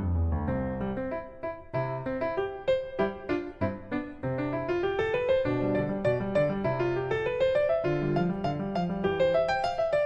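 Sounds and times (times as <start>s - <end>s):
piano notes: 0.0s - 10.0s.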